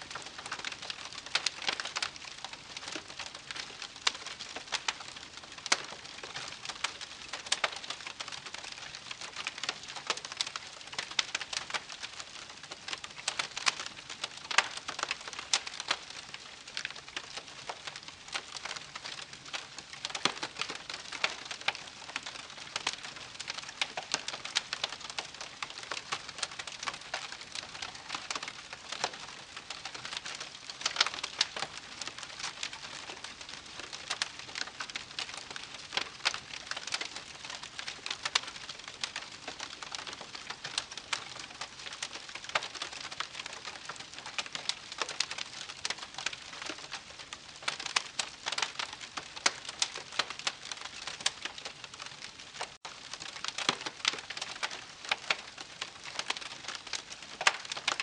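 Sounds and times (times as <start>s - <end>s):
campfire crackling and popping: 0.1s - 58.0s.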